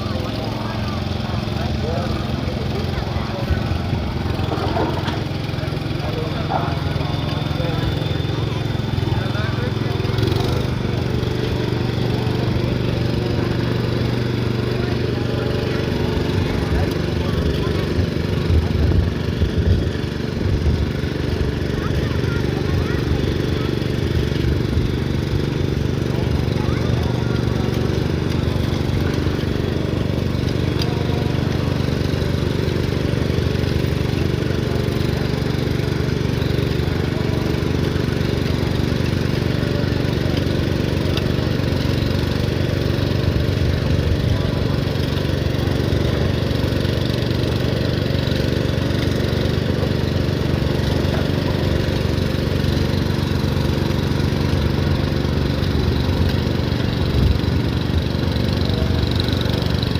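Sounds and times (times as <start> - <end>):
small tractor engine running: 0.0 - 59.9.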